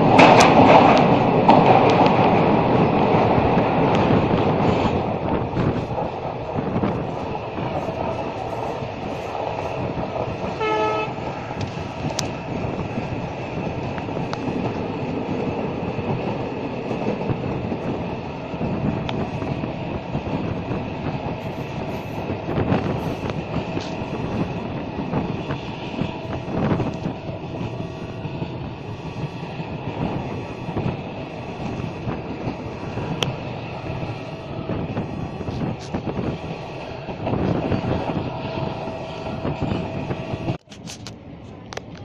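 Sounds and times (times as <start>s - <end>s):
train wheels rumbling on track: 0.0s - 42.0s.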